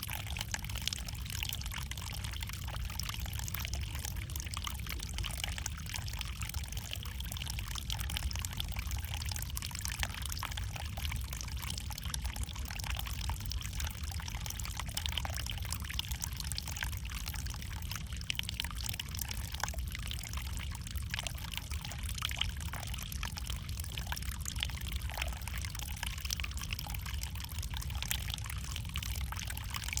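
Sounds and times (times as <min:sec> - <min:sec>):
small water splashes and trickles: 0:00.0 - 0:30.0.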